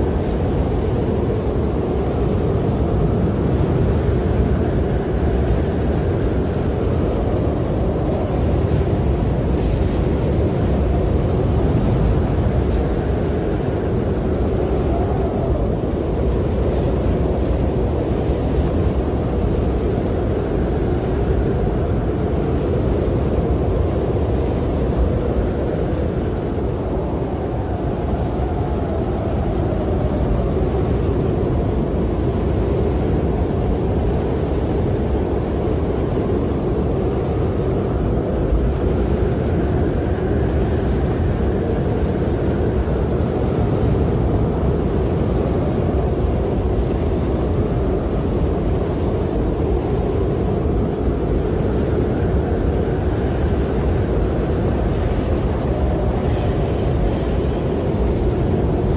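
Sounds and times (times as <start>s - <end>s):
snowstorm wind blowing: 0.0s - 58.9s.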